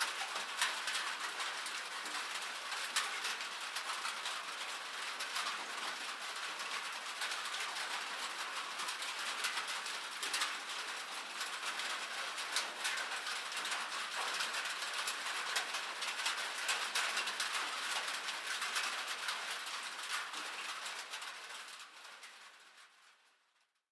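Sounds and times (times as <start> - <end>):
light rain falling: 0.0 - 23.4.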